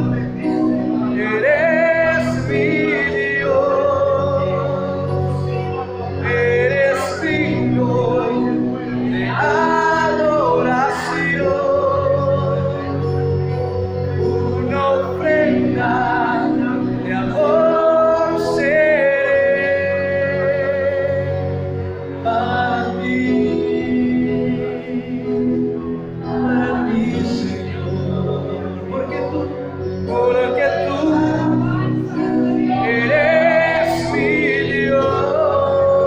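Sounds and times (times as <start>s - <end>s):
people singing worship song: 0.0s - 13.4s, 14.4s - 36.0s
sustained instrumental accompaniment: 0.0s - 36.0s.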